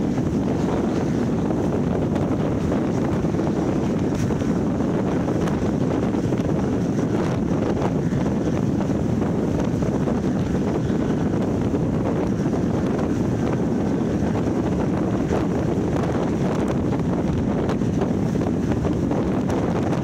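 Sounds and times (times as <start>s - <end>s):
boat rumble on water: 0.0s - 20.0s
wind buffeting microphone: 0.0s - 20.0s.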